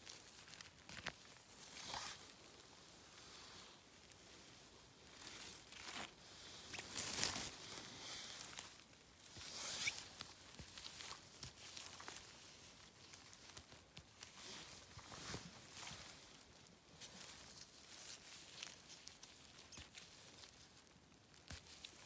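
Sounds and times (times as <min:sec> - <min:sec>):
moss and undergrowth rustling tearing: 0:00.0 - 0:22.0.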